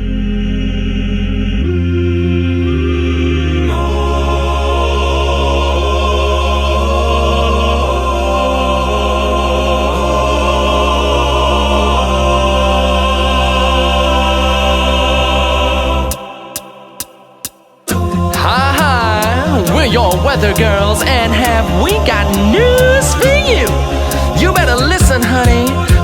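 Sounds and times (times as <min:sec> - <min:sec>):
choir singing sustained chords: 0:00.0 - 0:26.0.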